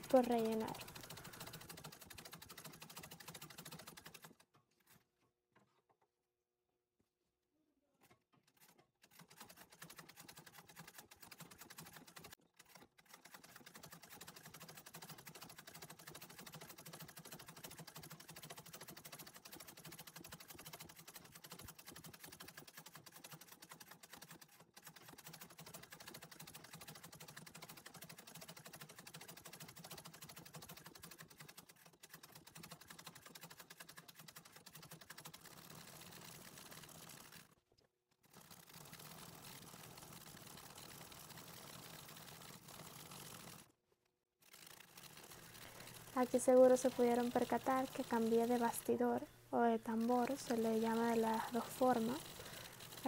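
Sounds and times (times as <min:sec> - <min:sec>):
treadle sewing machine running: 0:00.0 - 0:05.0, 0:08.4 - 0:37.6, 0:38.2 - 0:43.7, 0:44.4 - 0:53.0.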